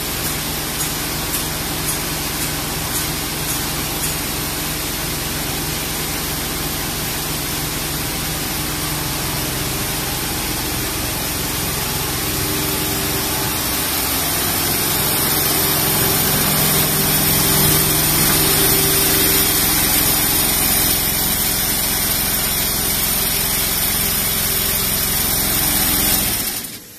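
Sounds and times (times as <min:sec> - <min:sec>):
quilting machine running: 0:00.0 - 0:26.9.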